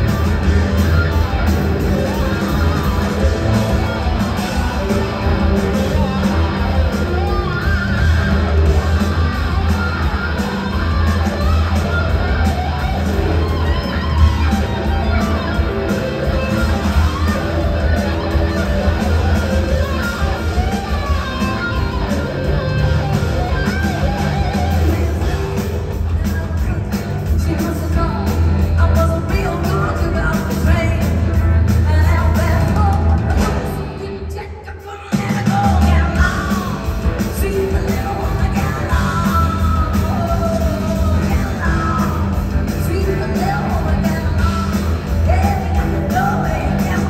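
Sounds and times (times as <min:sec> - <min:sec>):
bass guitar: 0:00.0 - 0:34.5, 0:35.1 - 0:47.0
drums: 0:00.0 - 0:47.0
electric guitars: 0:00.0 - 0:47.0.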